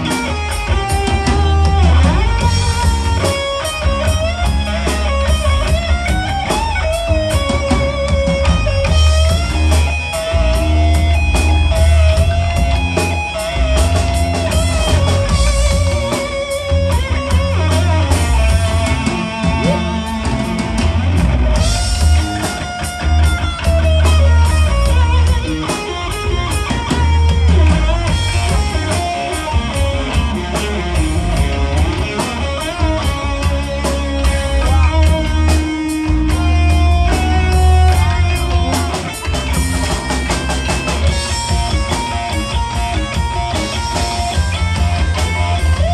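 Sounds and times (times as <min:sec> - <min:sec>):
lead electric guitar bending notes: 0:00.0 - 0:45.9
live rock band playing: 0:00.0 - 0:45.9.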